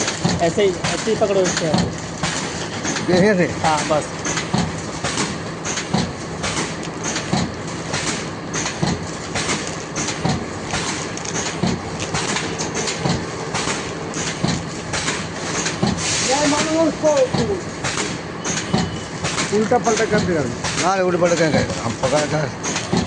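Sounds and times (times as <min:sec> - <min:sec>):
mechanical knocks clattering: 0:00.0 - 0:23.0
packing machine humming: 0:00.0 - 0:23.0.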